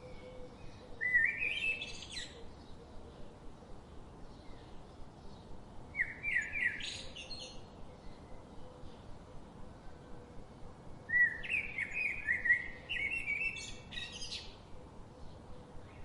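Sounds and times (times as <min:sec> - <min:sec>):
background hiss: 0:00.0 - 0:16.0
songbird singing: 0:00.0 - 0:16.0.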